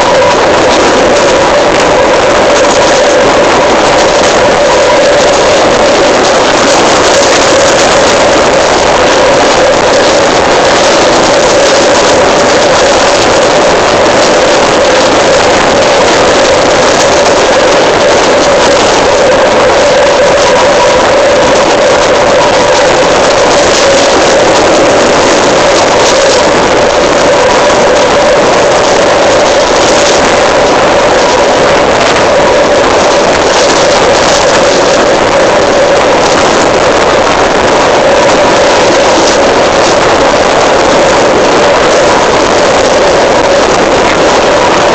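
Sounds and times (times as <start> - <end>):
electric train roaring: 0.0 - 44.9
loud rushing noise: 0.0 - 44.9.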